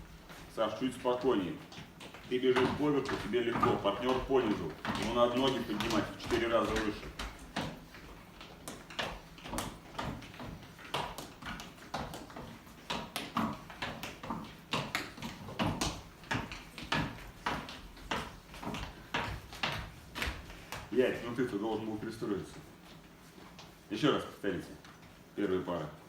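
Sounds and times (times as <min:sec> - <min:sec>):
running footsteps: 0:00.0 - 0:26.0.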